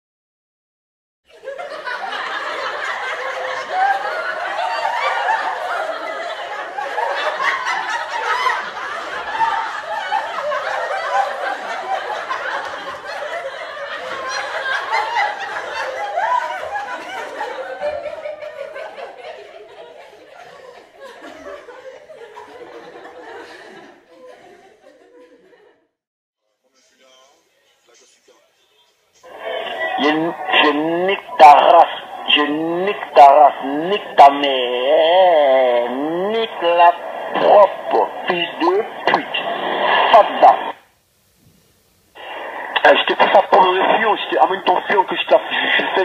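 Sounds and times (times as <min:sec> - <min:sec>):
group of people laughing: 0:01.3 - 0:25.9, 0:29.2 - 0:40.8, 0:42.2 - 0:46.0.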